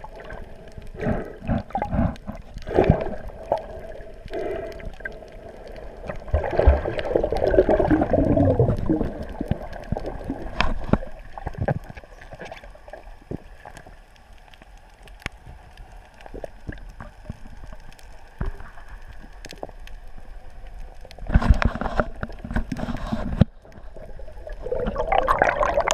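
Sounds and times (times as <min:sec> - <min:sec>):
water gurgling and sloshing: 0:00.0 - 0:25.9.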